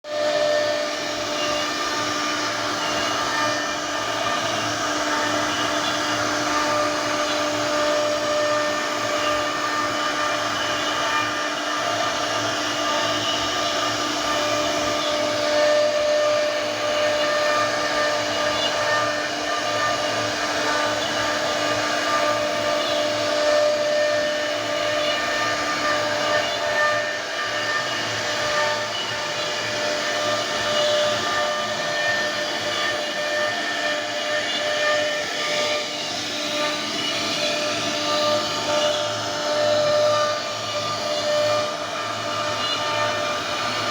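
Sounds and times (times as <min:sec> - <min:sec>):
router spindle whine: 0:00.0 - 0:43.9.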